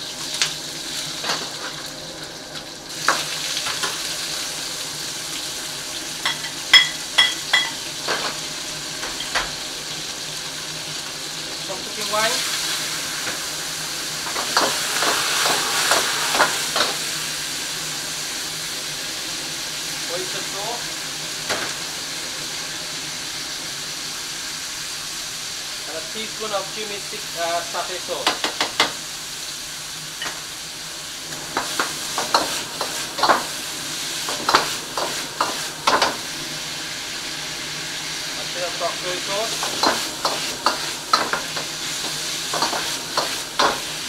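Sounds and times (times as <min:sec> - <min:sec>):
chicken sizzling in a wok: 0:00.0 - 0:44.0.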